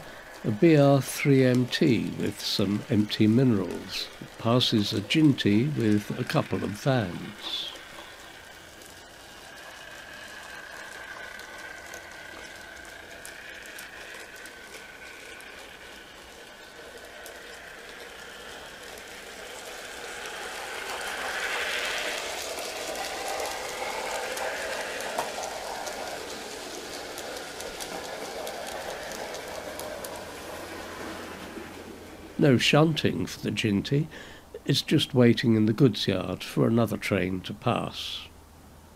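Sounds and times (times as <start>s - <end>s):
model train motor whine: 0.0s - 38.0s
wheels clicking and rattling: 0.0s - 38.0s.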